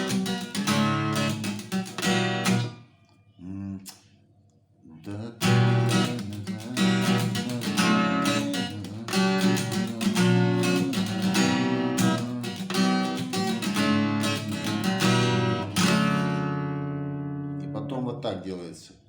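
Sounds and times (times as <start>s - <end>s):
acoustic guitar strumming: 0.0s - 2.9s, 5.2s - 18.0s.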